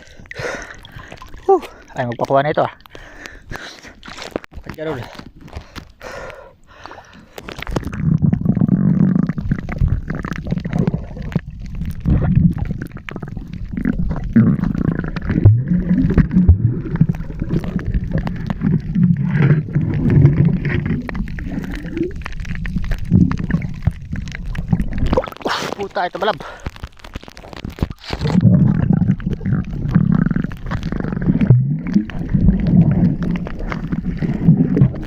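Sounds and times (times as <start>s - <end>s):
underwater rumbling and gurgling: 0.0s - 35.0s.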